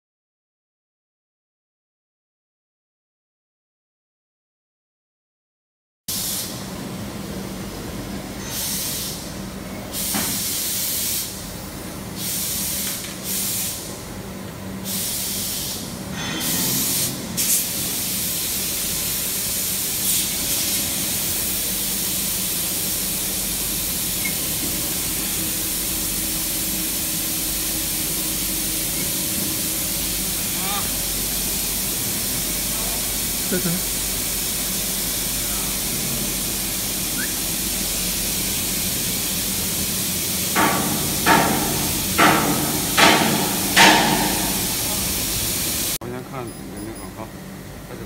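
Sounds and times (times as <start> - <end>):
workshop machinery hissing: 6.1 - 48.0.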